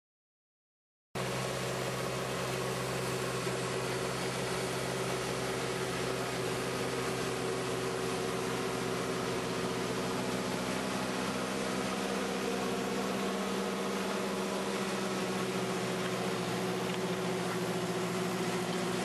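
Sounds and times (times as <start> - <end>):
mechanical drone with hiss: 1.2 - 19.0
tractor engine running: 1.2 - 19.0.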